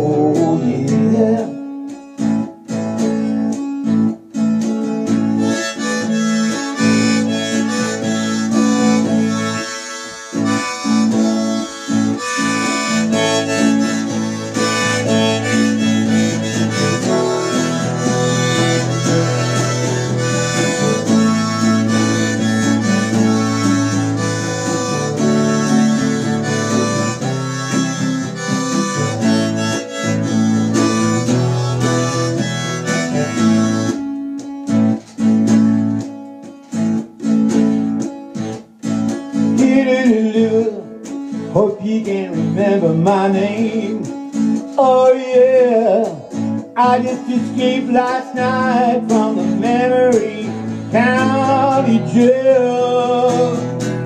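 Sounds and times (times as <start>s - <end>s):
harmonica playing: 0.0s - 36.1s, 42.5s - 54.0s
strummed acoustic guitar: 0.0s - 54.0s.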